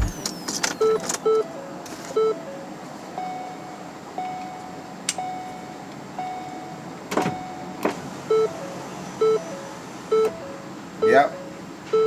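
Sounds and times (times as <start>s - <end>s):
car warning chime beeping: 0.0s - 12.0s.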